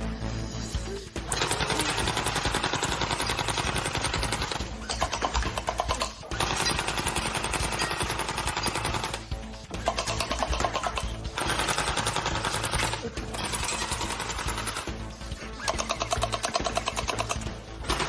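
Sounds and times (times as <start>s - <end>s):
rapid automatic gunfire: 1.2s - 18.0s.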